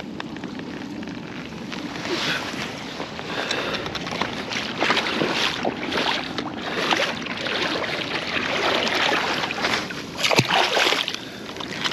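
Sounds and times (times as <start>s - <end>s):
water splashing and sloshing: 0.0s - 11.9s.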